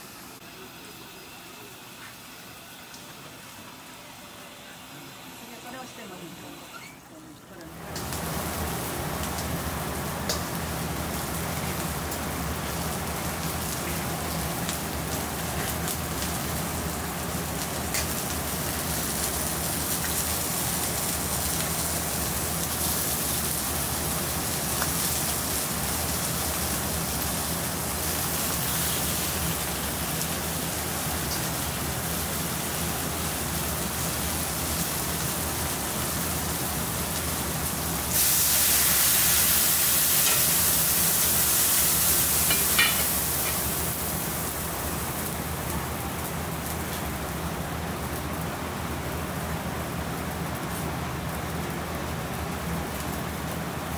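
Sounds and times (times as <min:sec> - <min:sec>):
cooking sizzle: 0:00.0 - 0:53.9.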